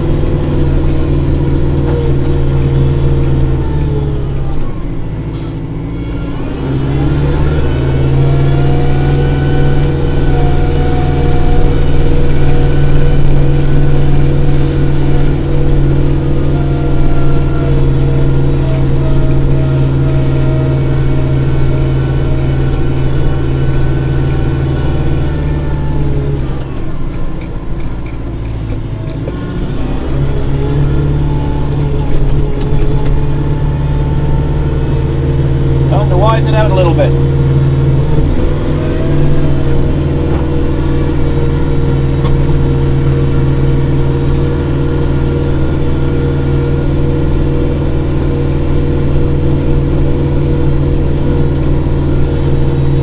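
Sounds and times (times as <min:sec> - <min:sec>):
tractor engine revving: 0:00.0 - 0:53.0.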